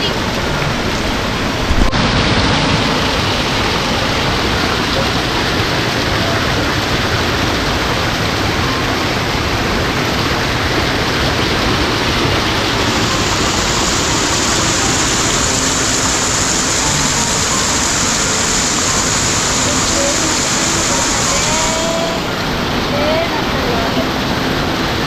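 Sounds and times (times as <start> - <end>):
waterfall rushing over rock: 0.0 - 25.0.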